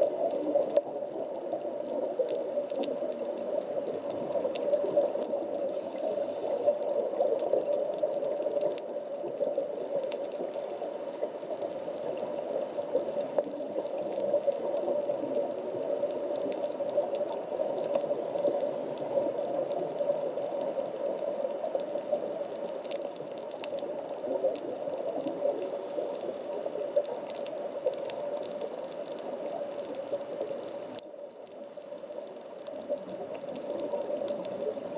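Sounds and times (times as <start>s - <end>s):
faint scattered clicks: 0.0s - 34.9s
muffled underwater water noise: 0.0s - 34.9s.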